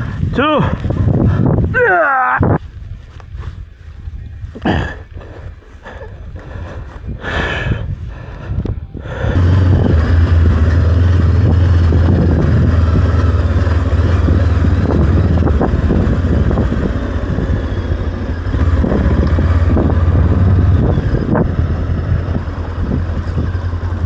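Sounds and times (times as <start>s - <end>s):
motorcycle engine riding: 0.0s - 24.0s
wind noise on microphone: 0.0s - 24.0s.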